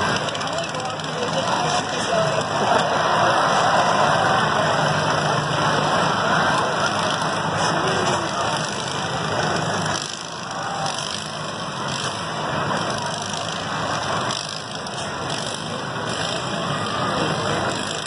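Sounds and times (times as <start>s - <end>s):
lawn mower engines running: 0.0s - 18.0s.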